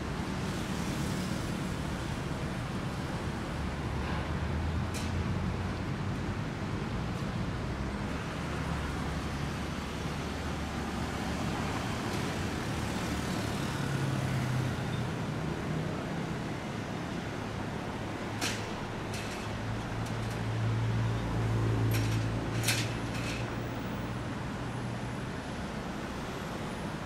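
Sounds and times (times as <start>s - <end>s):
street traffic passing: 0.0s - 27.0s.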